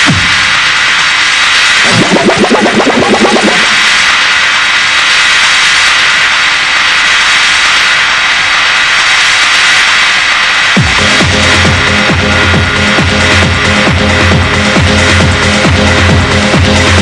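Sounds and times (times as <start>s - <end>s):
jet-like techno noise wash: 0.0s - 17.0s.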